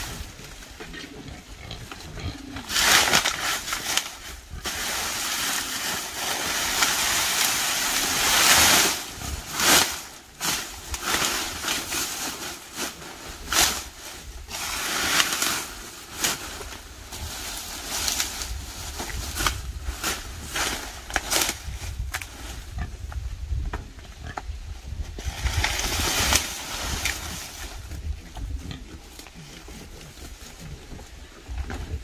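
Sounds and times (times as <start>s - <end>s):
dry leaves rustling and crackling: 0.0s - 23.0s, 24.8s - 32.0s.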